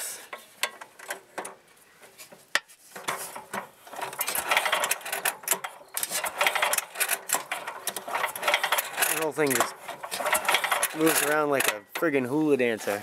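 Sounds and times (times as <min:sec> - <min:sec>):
loose metal bolt rattling: 0:00.3 - 0:12.4.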